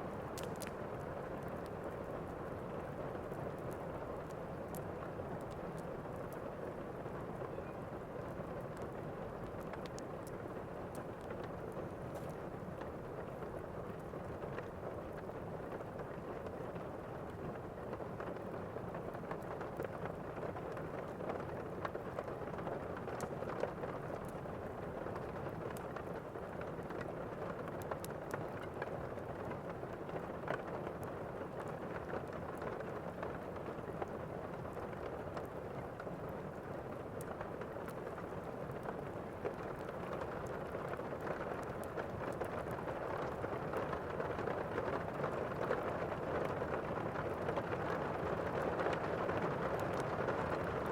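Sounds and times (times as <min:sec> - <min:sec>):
small crackles and ticks: 0:00.0 - 0:50.9.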